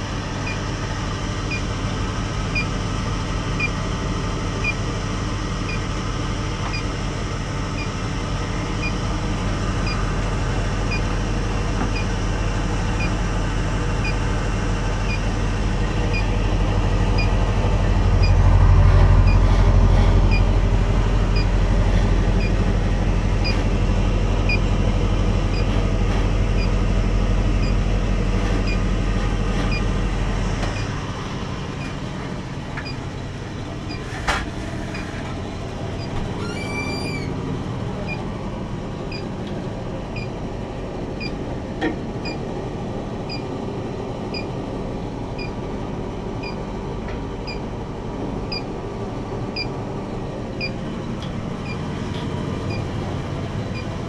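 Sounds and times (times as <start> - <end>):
compressor and fan hum: 0.0 - 54.0.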